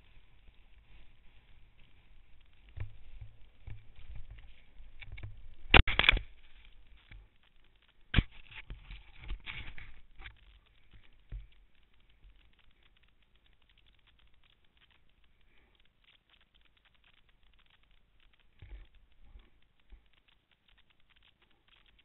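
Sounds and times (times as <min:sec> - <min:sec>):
faint crackling: 0:00.0 - 0:22.0.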